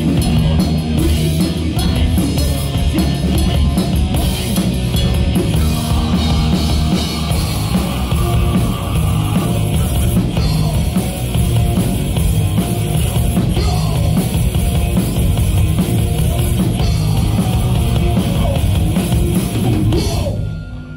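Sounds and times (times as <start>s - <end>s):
bass guitar: 0.0s - 20.9s
drum kit: 0.0s - 20.9s
electric guitars: 0.0s - 20.9s.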